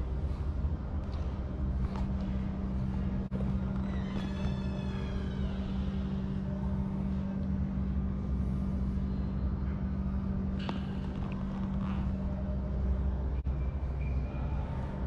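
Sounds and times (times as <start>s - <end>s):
low hum of hall room tone: 0.0s - 15.0s.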